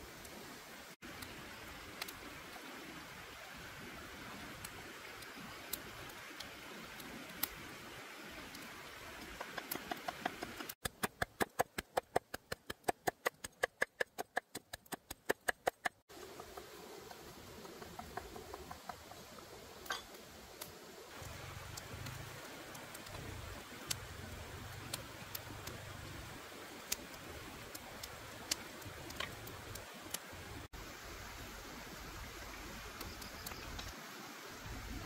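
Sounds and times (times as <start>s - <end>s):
wood fire crackling and popping: 1.1s - 30.7s, 32.5s - 34.0s.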